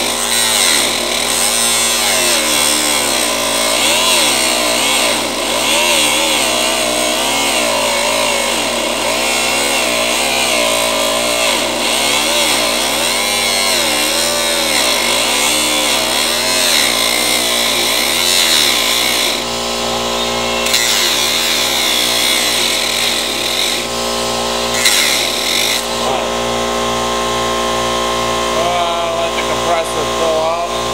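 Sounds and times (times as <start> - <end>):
electric power tool on metal: 0.0 - 30.9.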